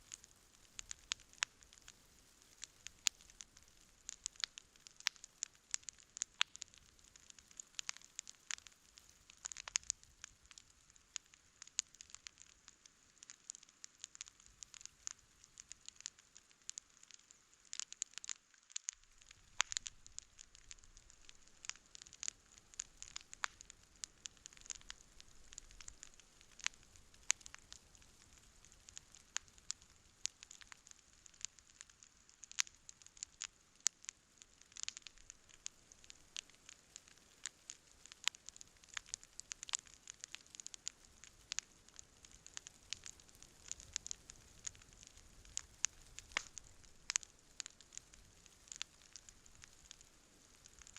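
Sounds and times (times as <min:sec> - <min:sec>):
campfire crackling and popping: 0:00.0 - 0:50.9
faint soft hiss: 0:00.0 - 0:50.9.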